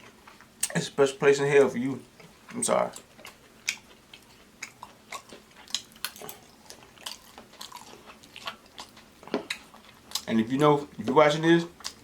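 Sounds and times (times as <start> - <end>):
chewing and lip-smacking: 2.2 - 12.0.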